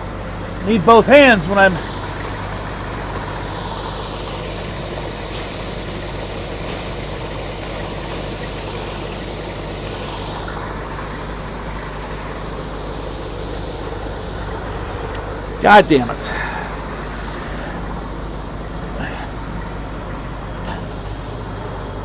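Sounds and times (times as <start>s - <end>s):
engine idling: 0.0s - 7.9s, 8.5s - 22.0s
steady hiss: 0.0s - 19.4s.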